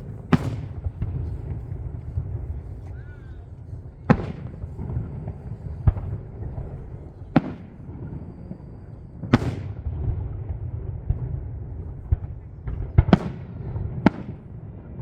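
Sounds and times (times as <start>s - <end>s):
low rumble: 0.0s - 13.0s
firework shells bursting: 0.0s - 14.4s.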